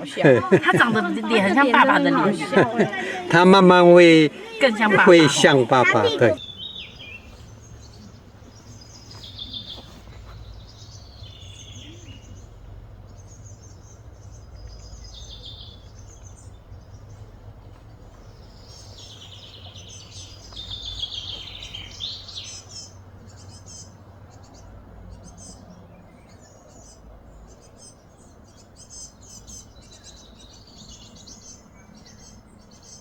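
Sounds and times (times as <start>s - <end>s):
low background hum: 0.0s - 33.0s
small birds chirping and trilling: 0.0s - 33.0s.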